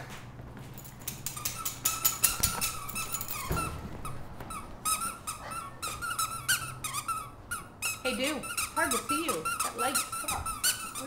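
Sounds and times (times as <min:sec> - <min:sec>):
dog chewing a squeaky toy: 0:01.1 - 0:11.0.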